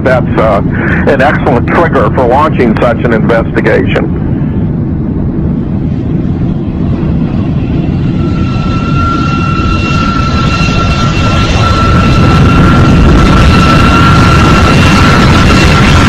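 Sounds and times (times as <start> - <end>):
high-pitched turbine whine: 0.0 - 16.0
jet engines rumbling: 0.0 - 16.0.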